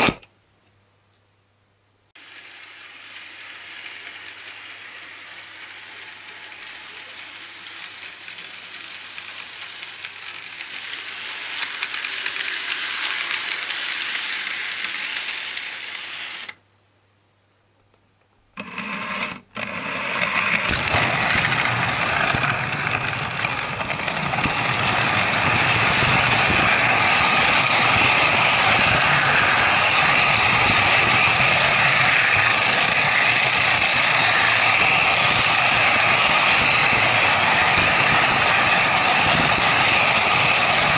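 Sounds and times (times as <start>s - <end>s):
toy train motor and gears running: 2.2s - 16.6s, 18.6s - 40.9s.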